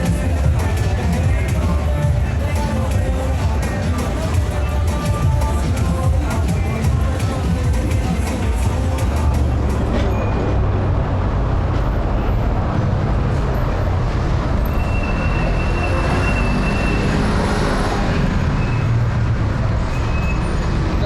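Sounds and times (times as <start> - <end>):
low rumble of city traffic: 0.0 - 21.0.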